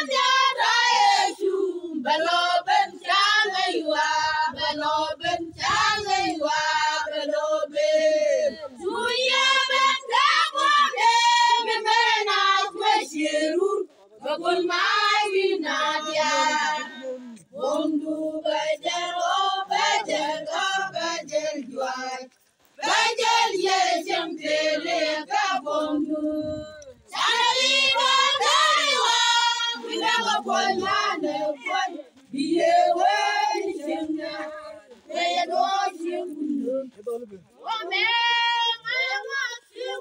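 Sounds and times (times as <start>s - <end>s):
women singing together: 0.0s - 40.0s.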